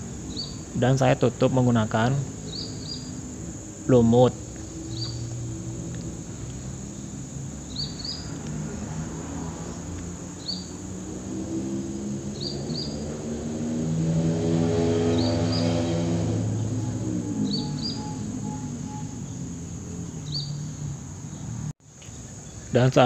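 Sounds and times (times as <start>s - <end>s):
high insect drone: 0.0s - 23.0s
passing motor vehicle hum: 0.0s - 23.0s
small bird chirping: 0.1s - 13.4s, 14.8s - 22.8s.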